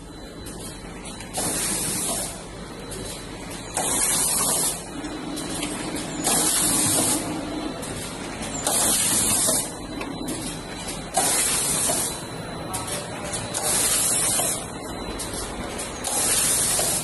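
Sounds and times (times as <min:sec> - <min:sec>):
packing machine running: 0:00.0 - 0:17.0.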